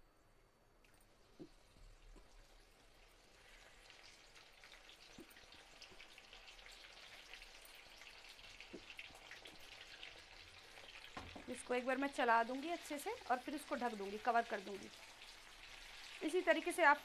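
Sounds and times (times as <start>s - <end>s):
corn frying in hot oil: 0.9s - 17.0s.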